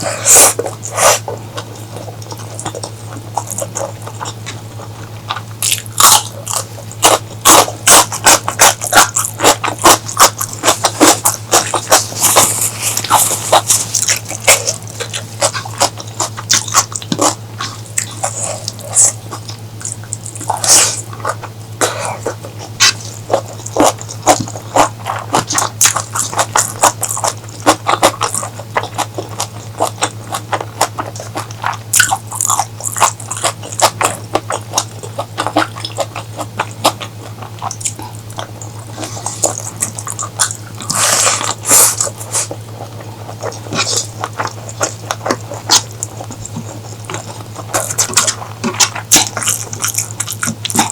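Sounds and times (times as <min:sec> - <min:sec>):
person chewing and biting: 0:00.0 - 0:50.9
steady low hum: 0:00.0 - 0:50.9.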